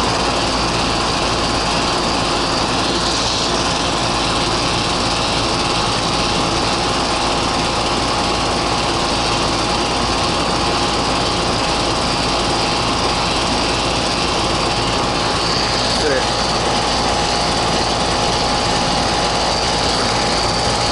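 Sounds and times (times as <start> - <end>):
air conditioner fan whoosh: 0.0 - 20.9
compressor hum: 0.0 - 20.9.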